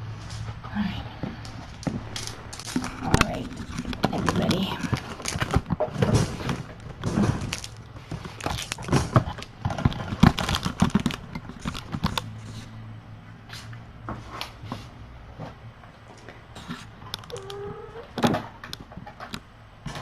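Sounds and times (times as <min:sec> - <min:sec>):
objects rustling and knocking: 0:00.0 - 0:12.8, 0:13.4 - 0:20.0
steady low hum: 0:00.0 - 0:20.0.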